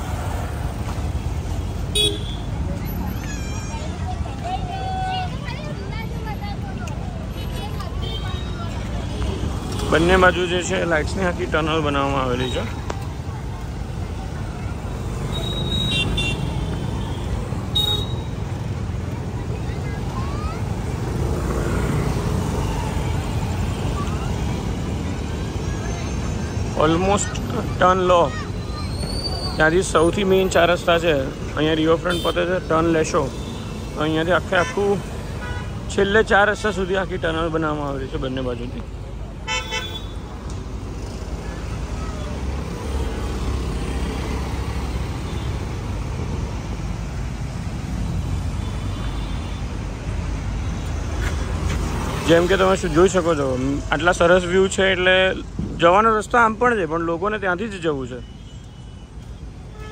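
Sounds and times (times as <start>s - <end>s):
scooter and car engines in traffic: 0.0s - 59.9s.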